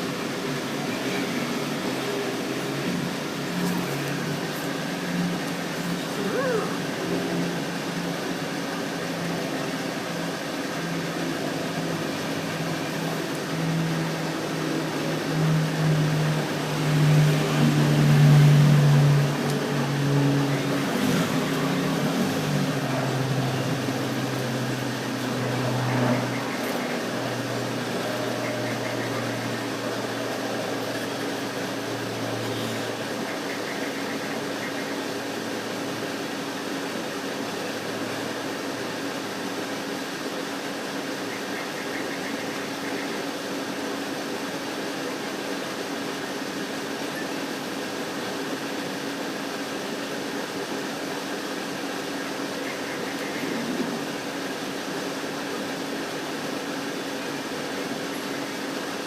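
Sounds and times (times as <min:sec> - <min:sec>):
steady machine hum with hiss: 0:00.0 - 0:59.0.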